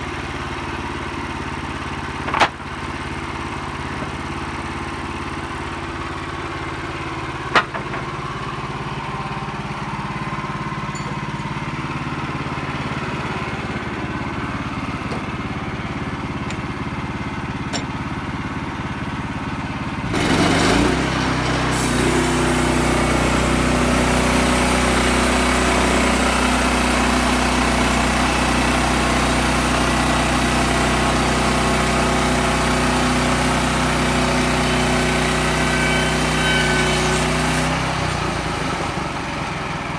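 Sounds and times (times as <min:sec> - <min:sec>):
gas engine running: 0:00.0 - 0:39.9.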